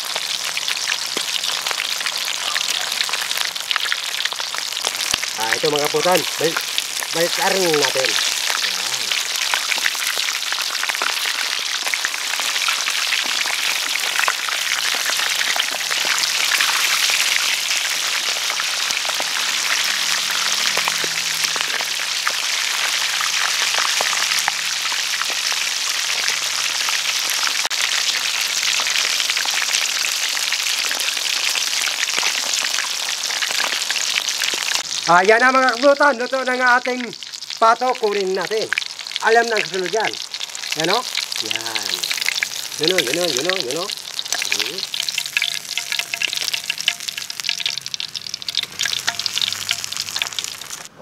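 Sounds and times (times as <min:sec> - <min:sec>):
oil crackling and sizzling: 0:00.0 - 0:51.0.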